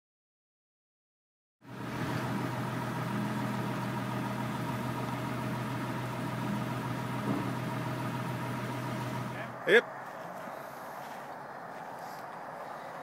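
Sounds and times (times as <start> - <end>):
engine idling: 1.6 - 13.0.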